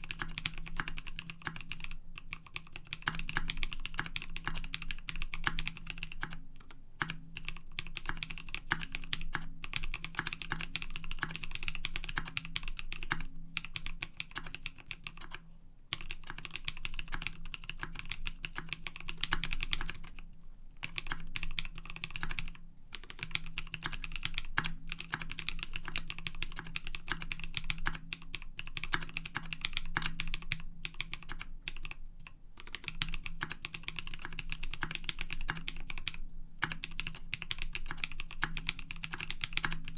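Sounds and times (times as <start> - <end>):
mechanical keyboard typing: 0.0 - 20.2, 20.8 - 39.9.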